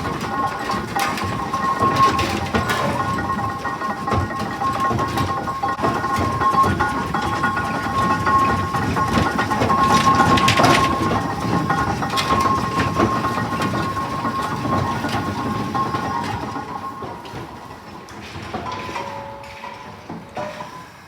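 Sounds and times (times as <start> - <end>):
steam engine clattering: 0.0 - 21.0.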